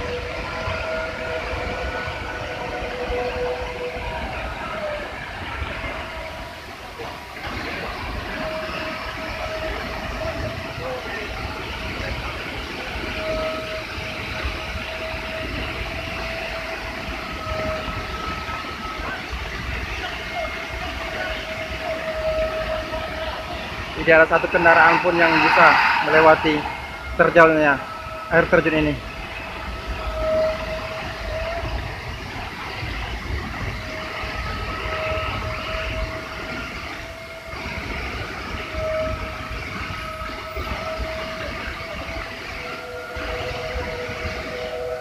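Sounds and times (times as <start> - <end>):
faint whistle-like tone: 0.0 - 31.8, 33.7 - 45.0
waterfall roaring: 0.0 - 44.8.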